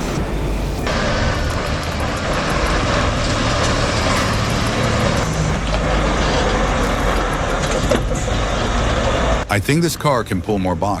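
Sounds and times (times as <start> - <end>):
heavy vehicle rumbling: 0.0 - 9.6.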